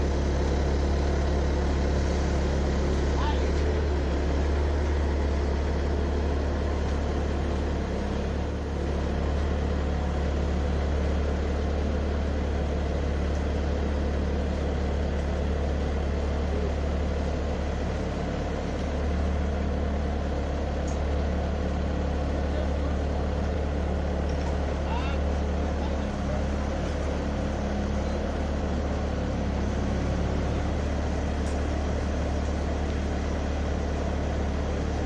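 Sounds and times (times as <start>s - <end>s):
loader engine idling: 0.0s - 35.0s.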